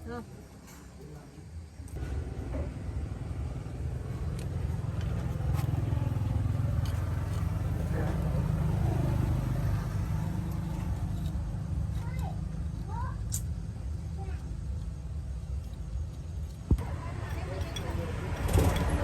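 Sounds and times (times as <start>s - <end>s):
vehicle engine rumbling: 1.9s - 19.0s.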